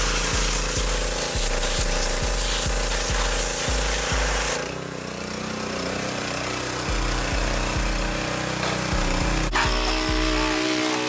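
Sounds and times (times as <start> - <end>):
pressure washer spraying: 0.0 - 11.0
steady pulsing drone: 0.0 - 11.0.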